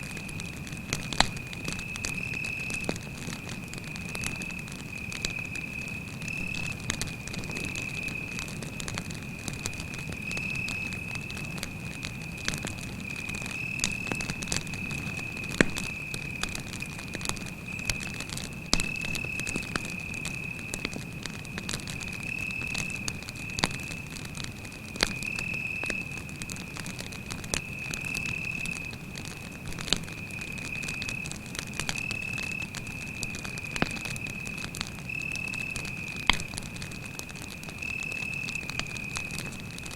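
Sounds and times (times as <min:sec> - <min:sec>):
campfire crackling and popping: 0:00.0 - 0:39.9
cricket chirping trill: 0:01.1 - 0:03.0, 0:03.8 - 0:08.5, 0:09.1 - 0:24.1, 0:25.0 - 0:29.0, 0:30.0 - 0:36.5, 0:37.7 - 0:39.9.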